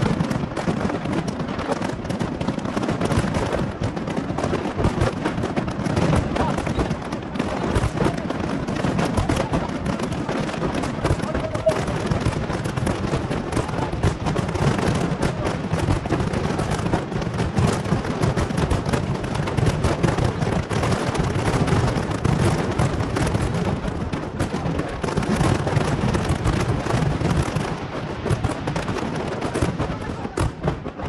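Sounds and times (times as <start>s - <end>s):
deep fireworks booms: 0.0s - 31.0s
fireworks bangs and crackles: 0.0s - 31.0s.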